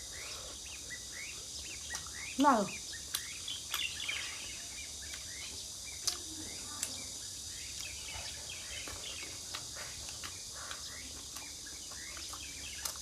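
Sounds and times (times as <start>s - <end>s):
crickets and insects droning: 0.0s - 13.0s.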